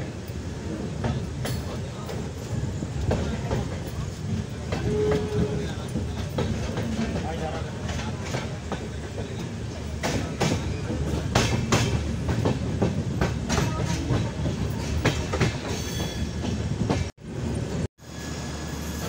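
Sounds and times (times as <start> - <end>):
train rumbling: 0.0 - 19.0
wheels clacking over rail joints: 1.0 - 17.1.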